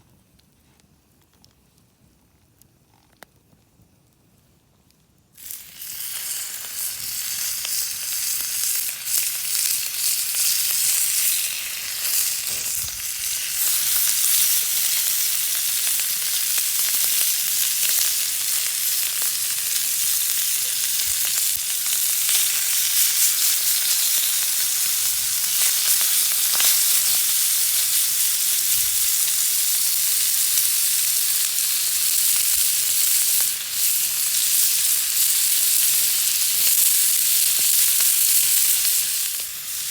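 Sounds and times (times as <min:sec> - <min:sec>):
food sizzling in a hot pan: 0:05.4 - 0:39.9.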